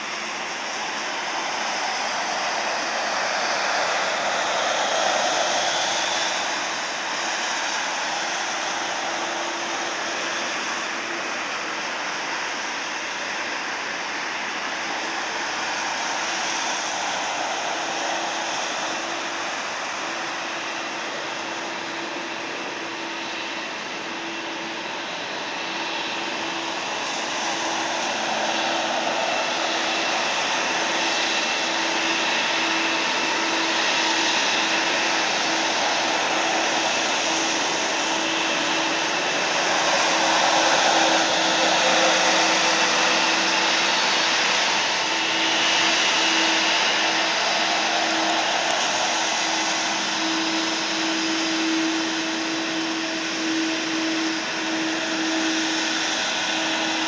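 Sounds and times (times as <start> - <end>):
high fan whine: 0.0 - 57.0
jet engine rumble: 0.0 - 57.0.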